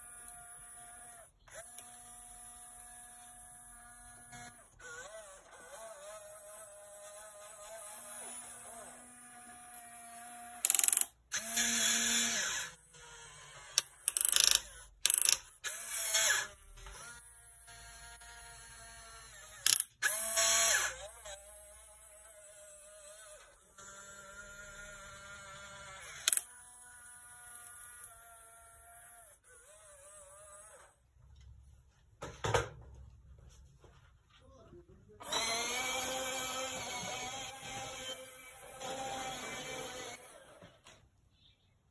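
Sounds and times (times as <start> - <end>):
small electric motors whirring: 0.0 - 31.0, 35.2 - 40.9.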